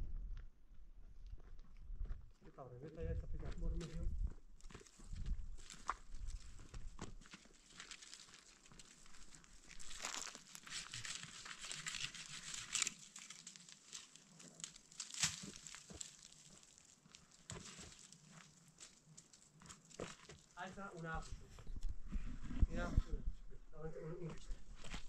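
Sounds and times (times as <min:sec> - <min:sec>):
quiet rustling and crinkling: 0:01.2 - 0:25.0.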